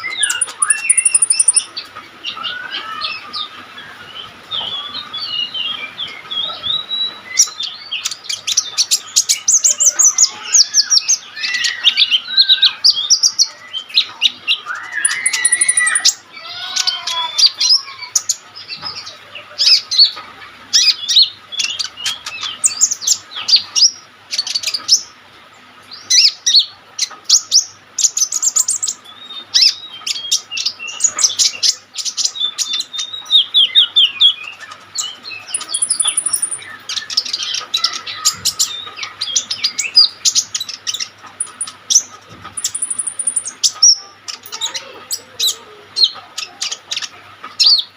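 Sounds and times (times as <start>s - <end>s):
sunbird singing high chirps: 0.0s - 20.1s, 27.3s - 47.9s.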